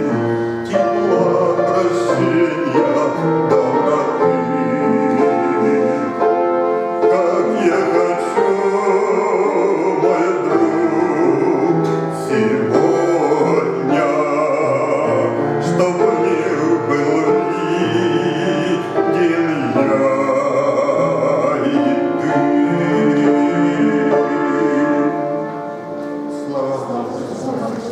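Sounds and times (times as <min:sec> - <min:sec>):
instrumental accompaniment: 0:00.0 - 0:27.9
man singing a hymn: 0:00.0 - 0:27.9.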